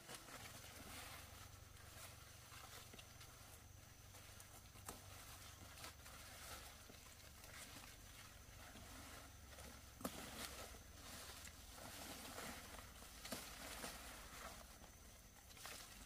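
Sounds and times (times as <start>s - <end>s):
leaves rustling: 0.0s - 16.0s.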